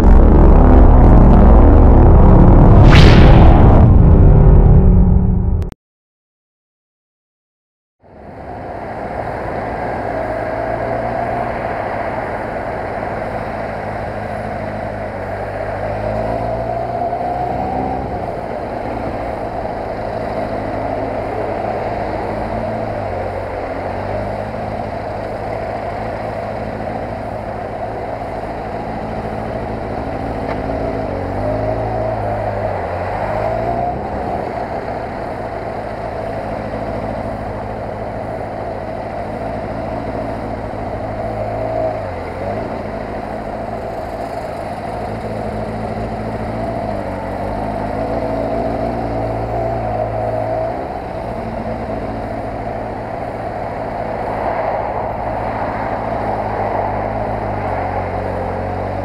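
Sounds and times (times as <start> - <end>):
road and wind noise: 0.0 - 5.8, 8.0 - 59.0.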